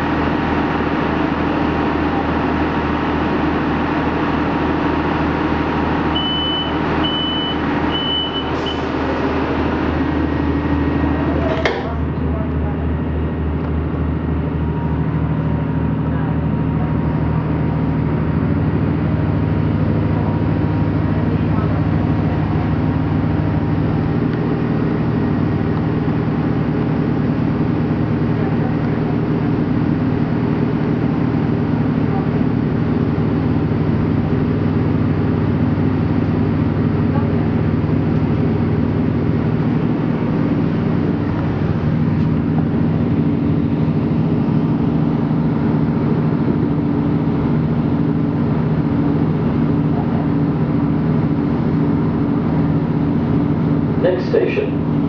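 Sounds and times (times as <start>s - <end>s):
railcar diesel engine drone: 0.0s - 55.0s
train running noise: 0.0s - 55.0s.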